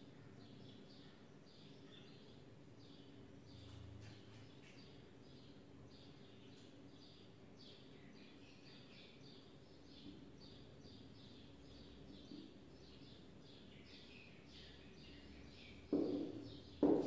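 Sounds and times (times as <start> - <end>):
small bird chirping: 0.1 - 17.0.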